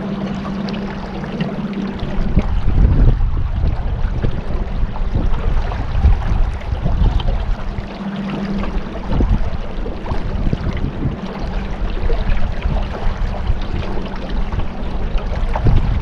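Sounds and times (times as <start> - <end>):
boat motor humming: 0.0 - 16.0
water splashing along hull: 0.0 - 16.0
wind buffeting microphone: 0.0 - 16.0.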